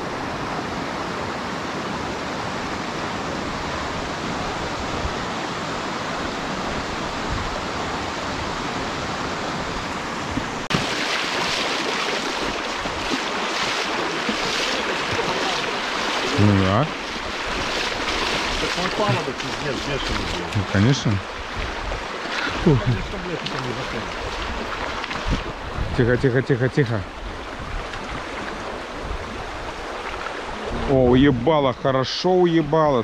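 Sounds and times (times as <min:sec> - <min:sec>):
river rushing: 0:00.0 - 0:32.9
hissy rush of water: 0:00.0 - 0:33.0.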